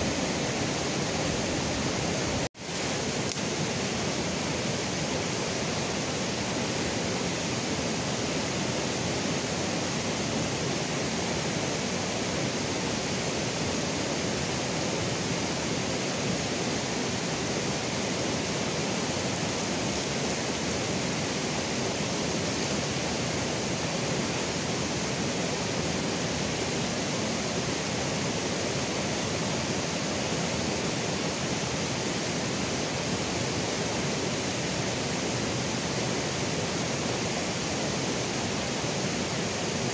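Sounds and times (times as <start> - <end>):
river running over rocks: 0.0 - 39.9.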